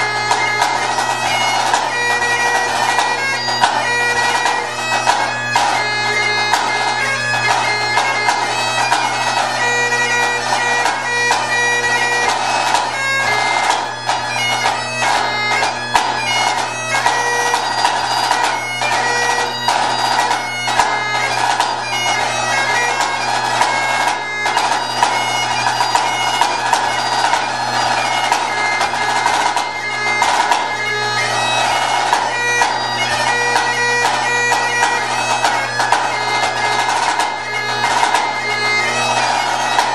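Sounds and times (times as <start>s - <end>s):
bagpipe playing: 0.0s - 39.9s.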